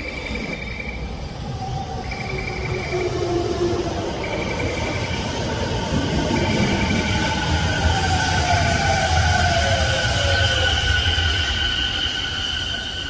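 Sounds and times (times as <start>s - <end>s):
electric train braking: 2.0s - 13.0s.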